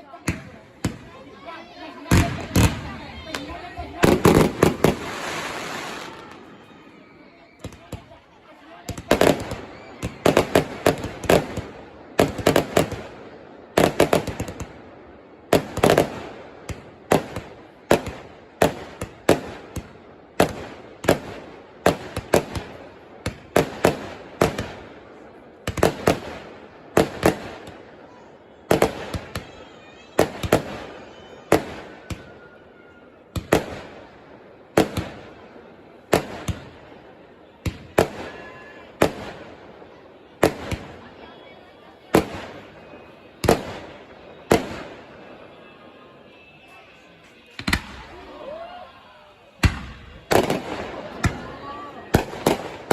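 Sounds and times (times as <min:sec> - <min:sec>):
fireworks bangs with echoing booms: 0:00.2 - 0:06.8, 0:07.6 - 0:48.4, 0:49.4 - 0:52.9.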